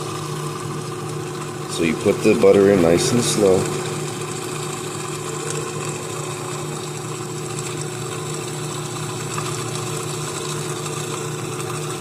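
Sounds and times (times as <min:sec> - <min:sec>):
food processor motor humming: 0:00.0 - 0:12.0.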